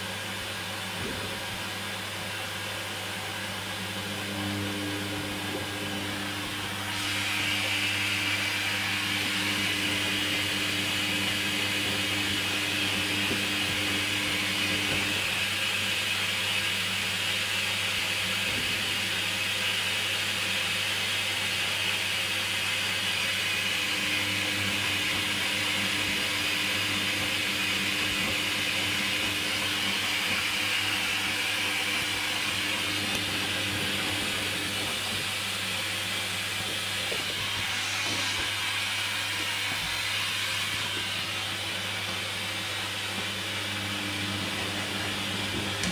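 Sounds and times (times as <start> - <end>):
low mechanical hum: 0.0 - 19.5, 23.0 - 45.9
water hissing into washing machine: 0.0 - 45.9.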